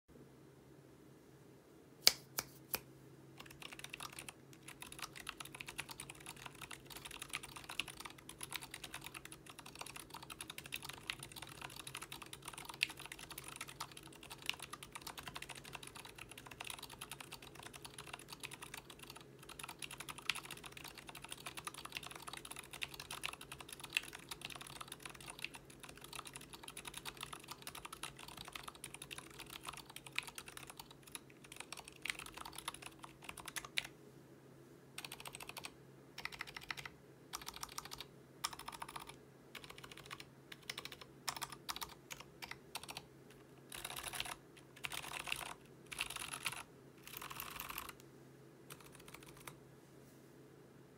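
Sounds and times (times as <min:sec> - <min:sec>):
mechanical keyboard typing: 0:03.4 - 0:33.9, 0:35.0 - 0:43.0, 0:43.7 - 0:48.0, 0:48.7 - 0:49.6.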